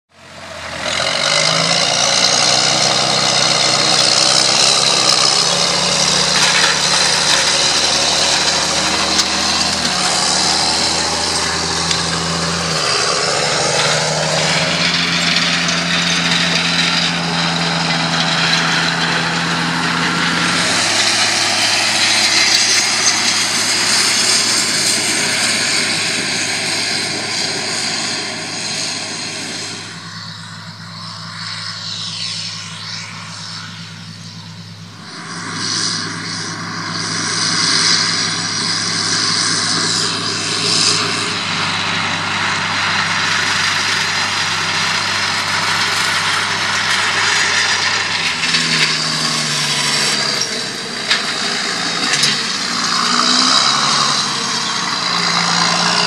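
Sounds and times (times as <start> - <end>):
tractor engine running under load: 0.1 - 56.0.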